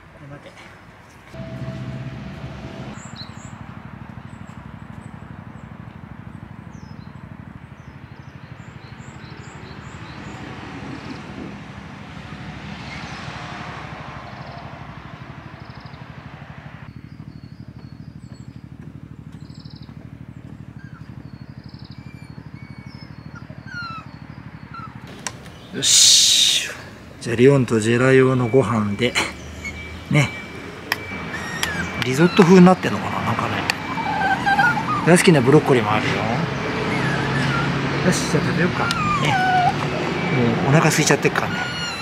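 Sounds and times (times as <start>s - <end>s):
small birds chirping: 2.7s - 13.6s, 14.2s - 42.0s.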